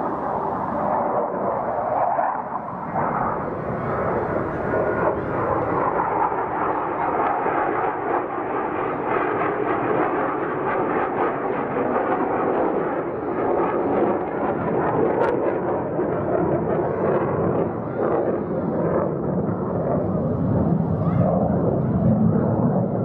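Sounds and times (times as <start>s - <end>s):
jet engine roar with crackle: 0.0s - 23.0s.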